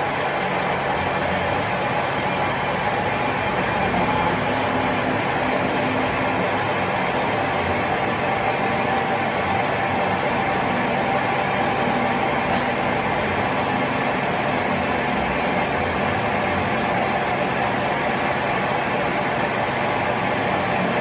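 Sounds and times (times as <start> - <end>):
machine humming steadily: 0.0 - 21.0.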